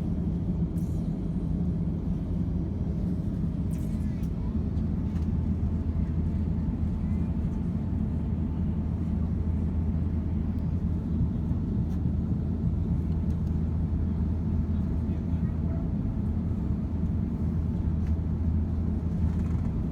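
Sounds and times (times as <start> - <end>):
airplane cabin drone: 0.0 - 19.9.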